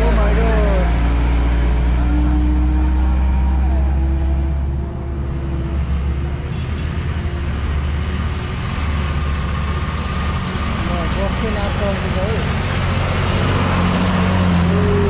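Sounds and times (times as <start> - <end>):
distant bus engine: 0.0 - 15.0
truck diesel engine rumbling: 0.0 - 15.0.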